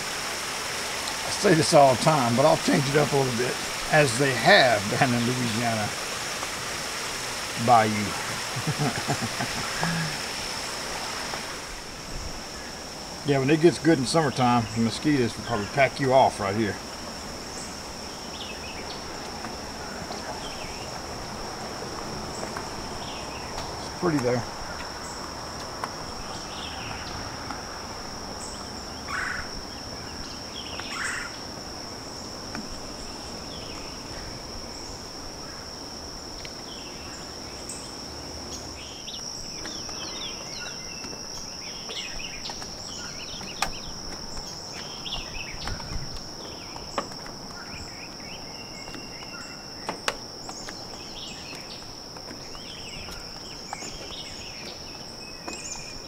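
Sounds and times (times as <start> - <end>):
birds calling: 0.0 - 56.0
insects droning: 0.0 - 56.0.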